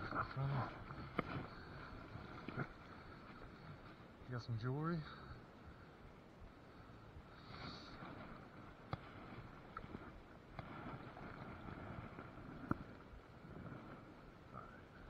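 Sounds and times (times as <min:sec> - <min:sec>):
light wind: 0:00.0 - 0:15.0
river water: 0:00.0 - 0:15.0.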